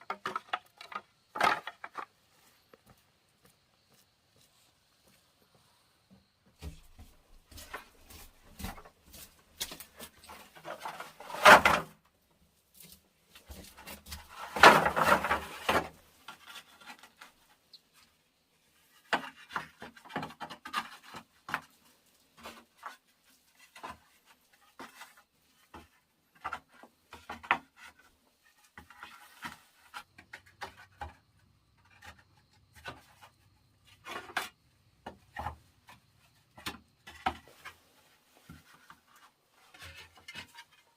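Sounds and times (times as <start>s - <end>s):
wood and brush rubbing and scraping: 0.0s - 40.9s.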